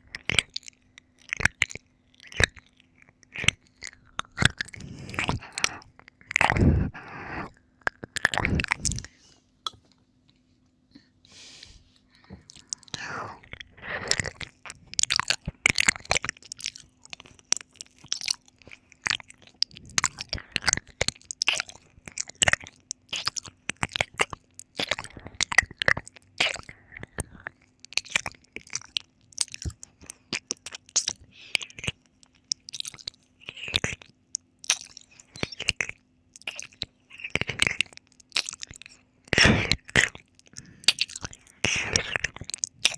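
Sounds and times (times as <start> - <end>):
mouth clicks and smacks: 0.0 - 10.0, 12.2 - 42.9
faint steady hum: 0.0 - 42.9.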